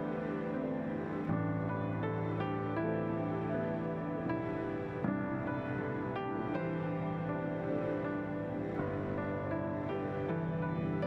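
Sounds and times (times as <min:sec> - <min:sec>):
gentle piano chords: 0:00.0 - 0:11.0.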